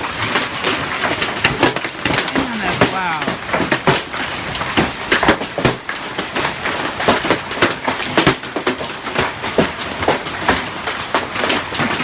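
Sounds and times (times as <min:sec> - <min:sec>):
hailstones clattering: 0:00.0 - 0:12.0.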